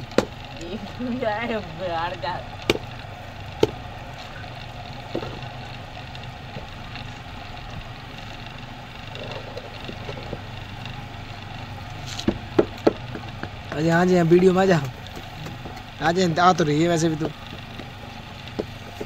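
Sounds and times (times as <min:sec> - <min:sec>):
potter's wheel motor hum: 0:00.0 - 0:19.0.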